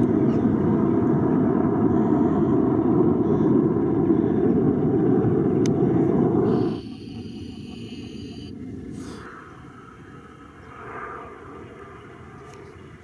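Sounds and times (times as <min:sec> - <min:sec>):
military aircraft engine: 0:00.0 - 0:13.0.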